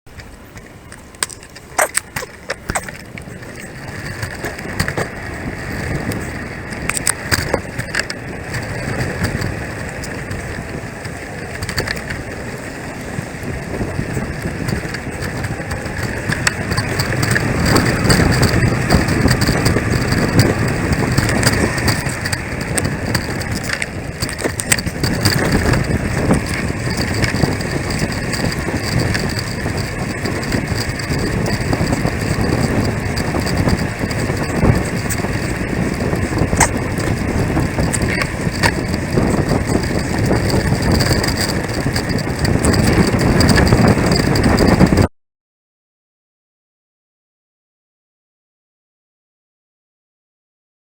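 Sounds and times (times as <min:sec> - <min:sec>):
bicycle tyres rumbling on road: 0:00.1 - 0:45.1
sharp rattling clicks: 0:00.1 - 0:45.1.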